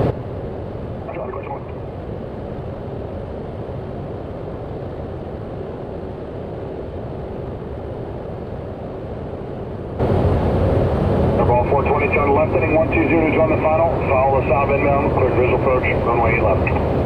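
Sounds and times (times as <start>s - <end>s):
airflow in flight: 0.0s - 17.0s
turboprop engine drone: 0.0s - 17.0s.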